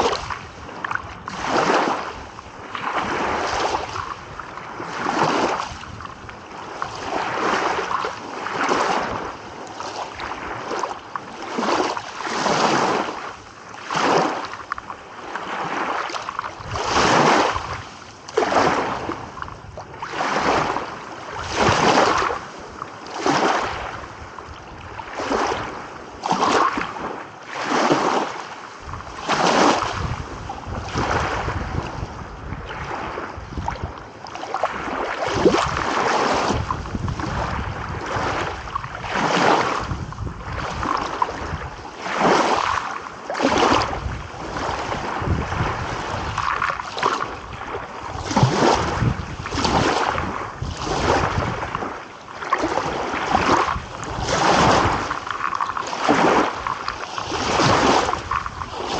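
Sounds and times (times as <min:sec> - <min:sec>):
low rumble of surf: 0:00.0 - 0:58.9
small waves washing onto shore: 0:00.0 - 0:58.9.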